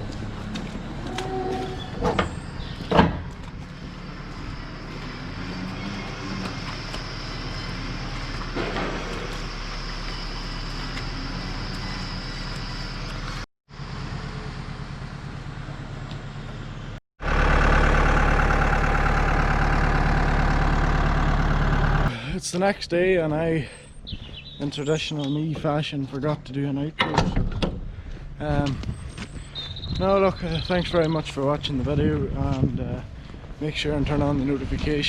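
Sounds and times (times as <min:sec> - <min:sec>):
farm vehicle engine running: 0:00.0 - 0:26.3, 0:27.8 - 0:35.0.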